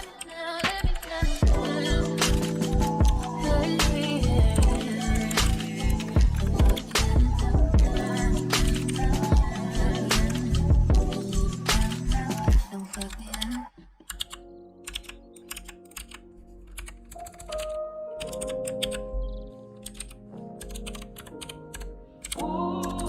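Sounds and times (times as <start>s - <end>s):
soft background music: 0.0s - 23.0s
typing on keyboard: 0.0s - 23.0s.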